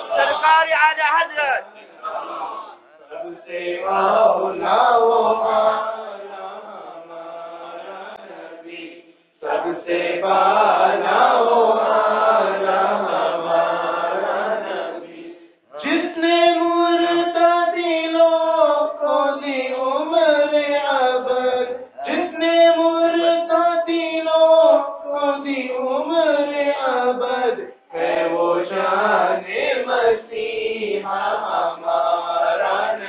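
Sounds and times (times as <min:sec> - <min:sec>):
men chanting together: 0:00.0 - 0:33.0.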